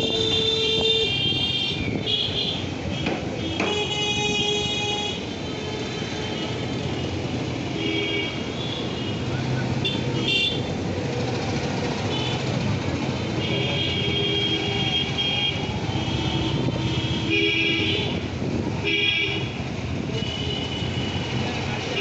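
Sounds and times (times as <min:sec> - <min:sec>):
vehicle horns honking: 0:00.0 - 0:10.7, 0:13.2 - 0:22.0
road traffic noise: 0:00.0 - 0:22.0.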